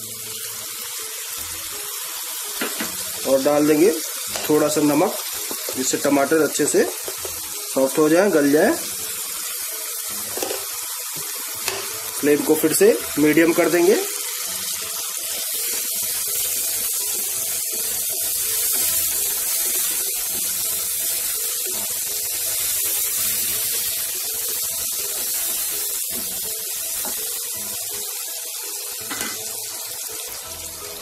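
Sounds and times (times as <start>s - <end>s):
masala sizzling in oil: 0.0s - 31.0s.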